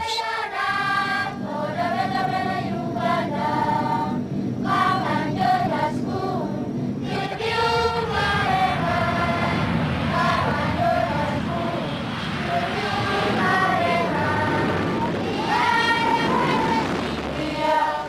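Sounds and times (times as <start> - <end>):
choir singing: 0.0 - 18.0
low hum: 0.0 - 18.0.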